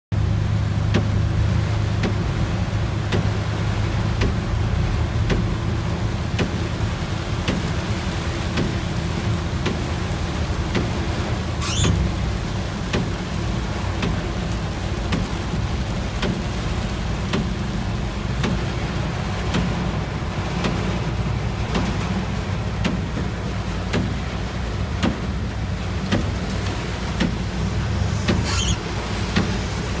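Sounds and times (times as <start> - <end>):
engine and tyres rumbling: 0.1 - 30.0
heavy rain on vehicle roof: 0.1 - 30.0.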